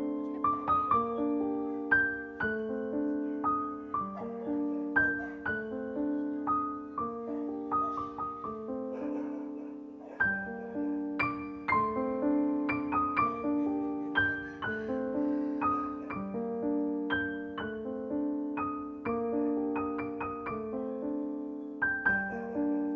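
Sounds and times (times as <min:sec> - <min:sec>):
piano music: 0:00.0 - 0:22.9.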